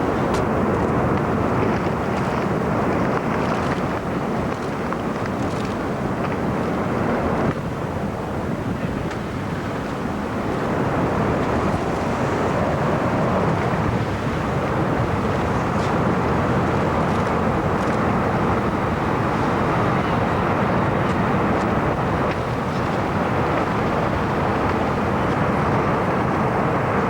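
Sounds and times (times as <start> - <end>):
wind: 0.0 - 27.0.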